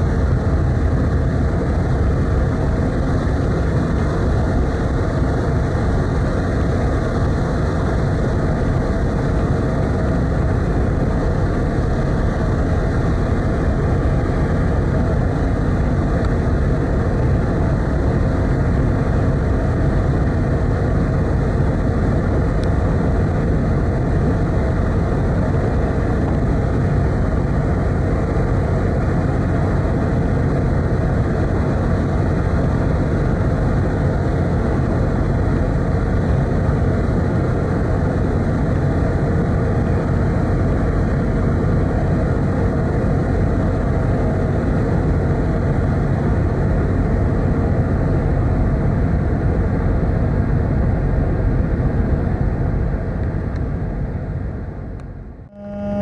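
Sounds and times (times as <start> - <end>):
ship engines rumbling: 0.0 - 56.0.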